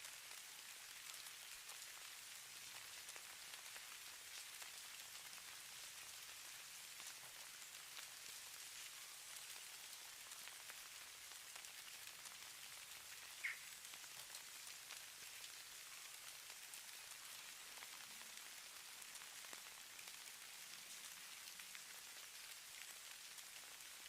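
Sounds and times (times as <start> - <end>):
falling snow pattering softly: 0.0 - 24.0.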